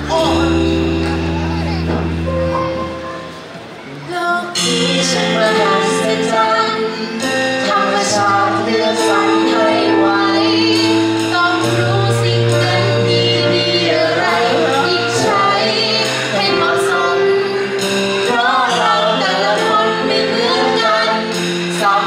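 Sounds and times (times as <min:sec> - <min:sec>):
backing track music: 0:00.0 - 0:22.0
woman singing: 0:04.0 - 0:22.0.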